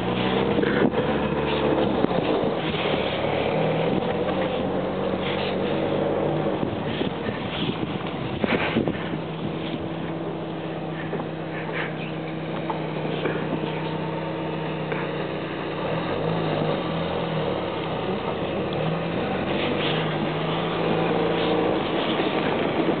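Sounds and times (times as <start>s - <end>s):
off-road vehicle engine running: 0.0s - 23.0s
second engine rising and falling: 0.0s - 23.0s.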